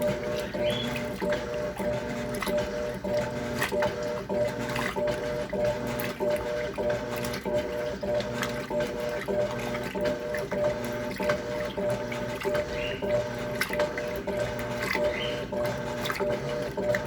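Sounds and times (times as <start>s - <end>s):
washing machine motor hum: 0.0s - 17.0s
water sloshing: 0.0s - 17.0s.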